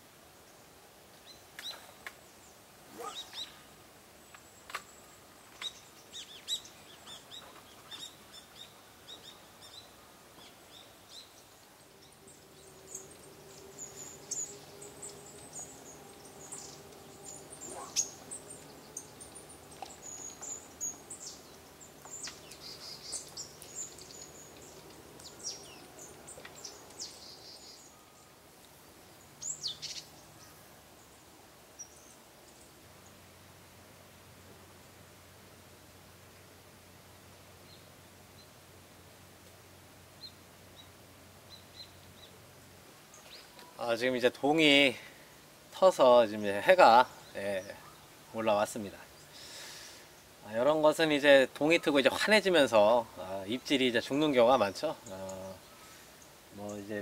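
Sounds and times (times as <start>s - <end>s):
faint low steady hum: 0.0s - 57.0s
small birds chirping: 0.4s - 33.3s, 39.4s - 57.0s.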